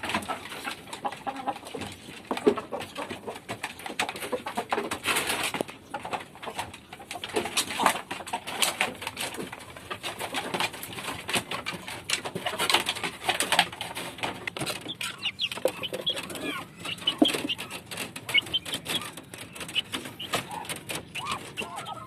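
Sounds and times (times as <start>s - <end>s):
chickens clucking: 0.0s - 22.0s
chickens high calls: 0.0s - 22.0s
chickens pecking: 0.0s - 22.0s.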